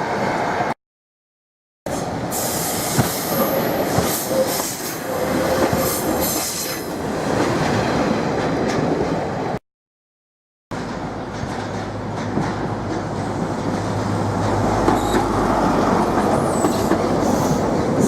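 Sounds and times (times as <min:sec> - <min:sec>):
train moving through station: 0:00.0 - 0:00.8, 0:01.9 - 0:09.6, 0:10.8 - 0:18.0.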